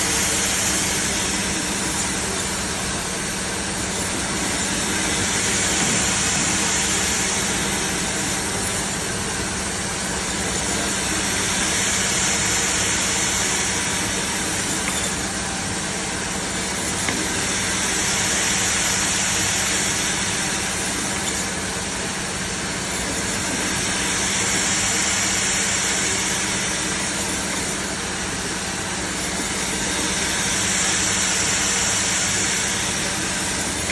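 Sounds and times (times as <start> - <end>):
meat band saw running: 0.0 - 33.9.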